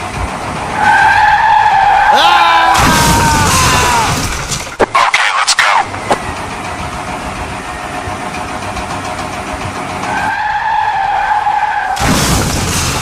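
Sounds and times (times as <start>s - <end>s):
steady engine noise: 0.0s - 13.0s.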